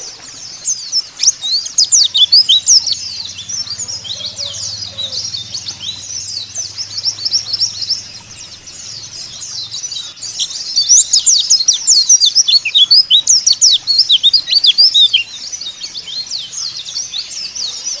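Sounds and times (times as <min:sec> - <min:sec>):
birds twittering high chirps: 0:00.0 - 0:18.0.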